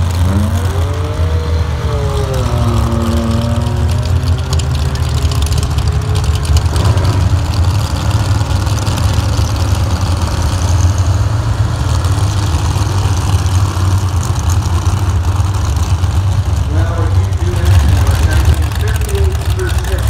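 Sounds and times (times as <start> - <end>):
engines idling: 0.0 - 20.0.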